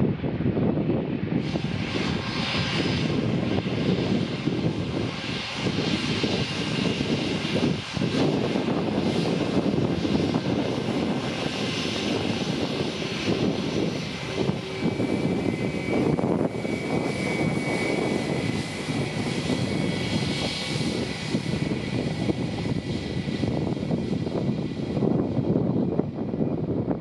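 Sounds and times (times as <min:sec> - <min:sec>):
jet engines at taxi power: 0:00.0 - 0:27.0
wind buffeting microphone: 0:00.0 - 0:27.0.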